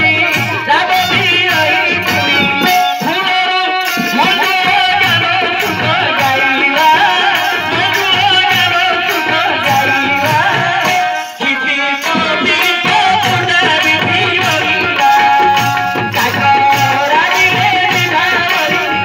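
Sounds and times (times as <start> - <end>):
drumming: 0.0 - 19.0
electronic keyboard: 0.0 - 19.0
person singing into a microphone: 0.0 - 19.0.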